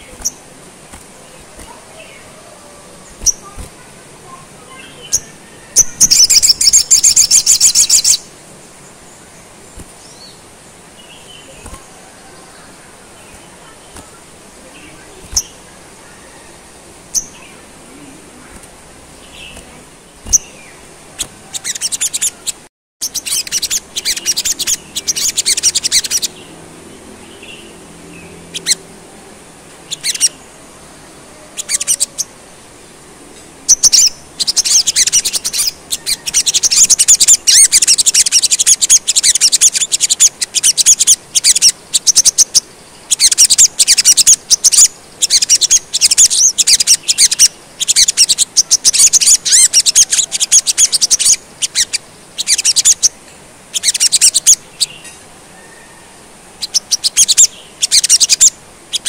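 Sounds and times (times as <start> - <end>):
songbird twittering: 0.0 - 0.5, 1.2 - 28.9, 29.8 - 32.4, 33.6 - 59.0.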